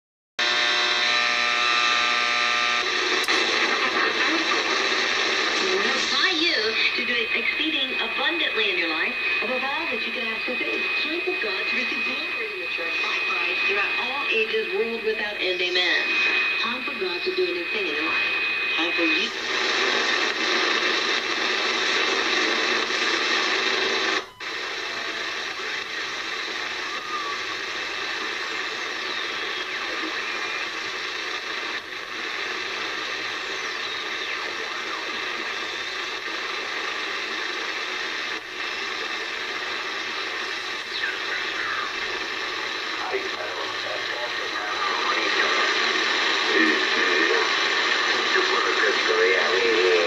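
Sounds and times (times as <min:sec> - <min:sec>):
radio hiss and static: 0:00.4 - 0:50.0.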